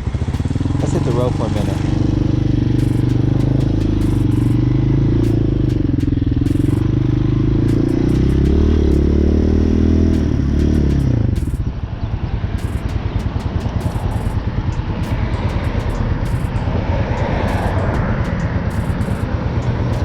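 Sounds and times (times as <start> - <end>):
motorcycle engine pulling away: 0.0 - 20.0
rough pulsing low rumble: 0.0 - 20.0.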